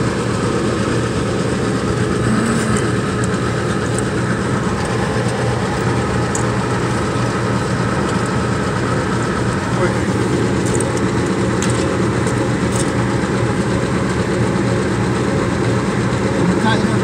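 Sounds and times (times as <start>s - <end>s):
machine drone with low hum: 0.0s - 17.0s.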